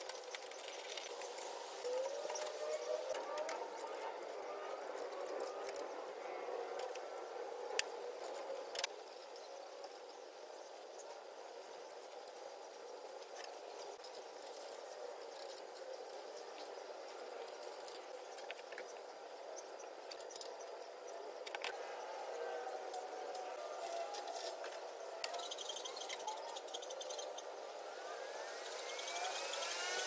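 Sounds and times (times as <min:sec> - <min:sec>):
faint background noise: 0:00.0 - 0:30.0.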